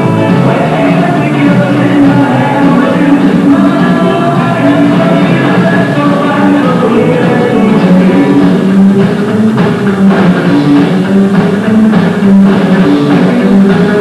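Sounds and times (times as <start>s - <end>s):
drum kit: 0.0s - 14.0s
electric guitar: 0.0s - 14.0s
upright bass: 0.0s - 14.0s.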